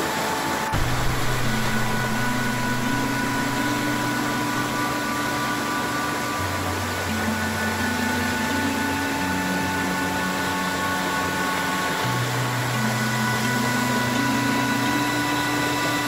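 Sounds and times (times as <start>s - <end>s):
soft music with held notes: 0.0s - 16.0s
steady hiss: 0.0s - 16.0s.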